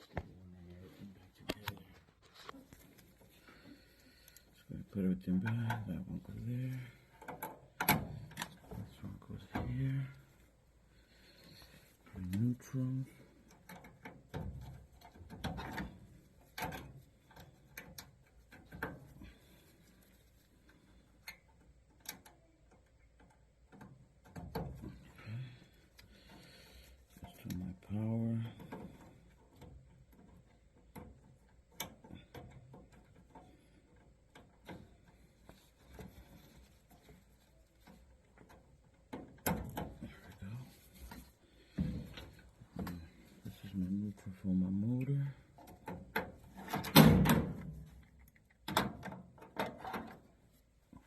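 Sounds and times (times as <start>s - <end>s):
hands handling wires: 0.0s - 4.7s, 5.4s - 51.0s.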